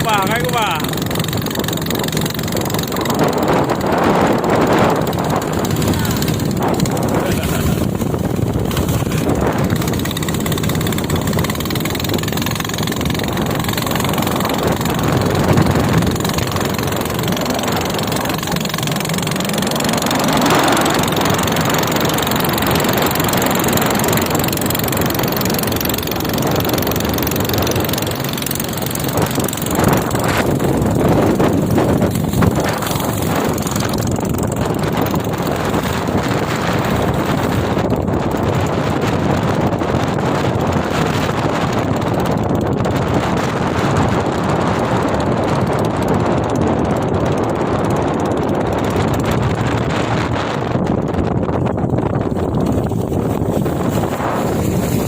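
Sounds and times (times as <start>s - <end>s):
speedboat engine running: 0.0s - 55.0s.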